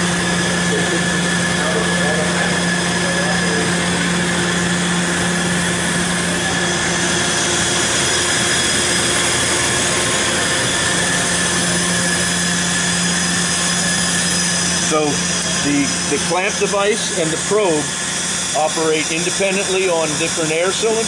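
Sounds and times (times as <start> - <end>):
grinder machine hum and hiss: 0.0 - 21.0.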